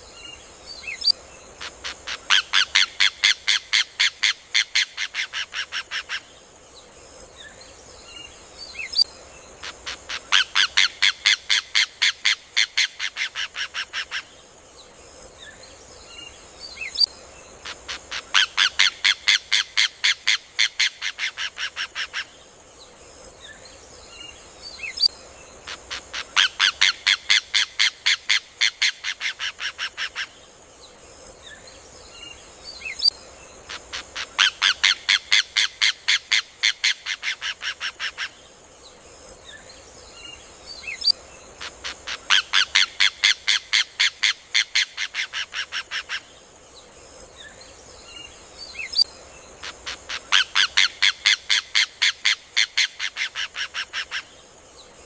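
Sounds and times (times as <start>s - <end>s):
steady high hiss: 0.0s - 55.0s.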